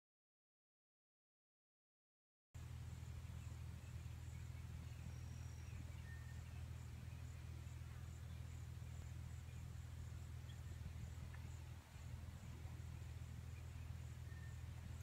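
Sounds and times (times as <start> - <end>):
insect chirping: 2.6 - 15.0
steady low hum: 2.6 - 15.0.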